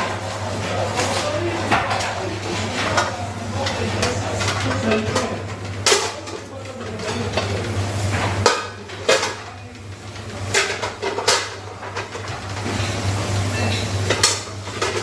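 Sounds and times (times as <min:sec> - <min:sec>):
dishes and cutlery clattering: 0:00.9 - 0:09.6, 0:10.4 - 0:12.9, 0:13.5 - 0:15.0.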